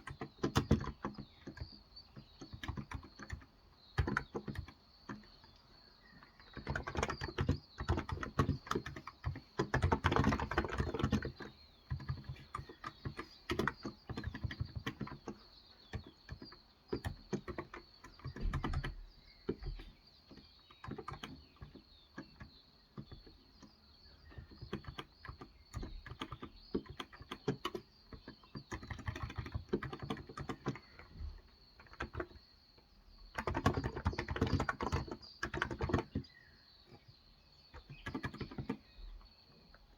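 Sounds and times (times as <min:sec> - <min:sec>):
soft keyboard typing: 0:00.0 - 0:39.8.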